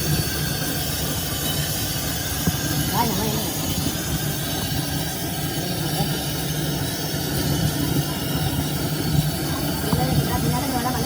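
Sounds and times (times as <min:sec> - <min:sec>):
noisy hiss: 0:00.0 - 0:11.0
workshop machinery humming: 0:00.0 - 0:11.0.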